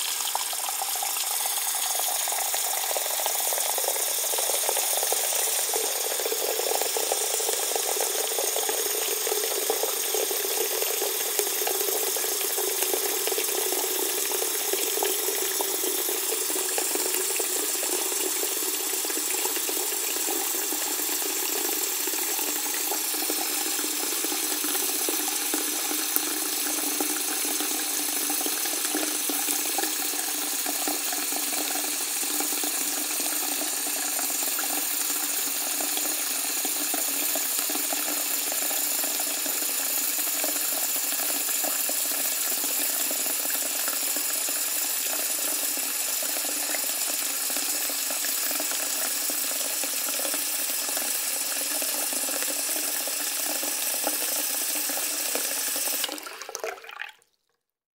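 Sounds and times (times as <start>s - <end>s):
tap water pouring into sink: 0.0s - 57.6s.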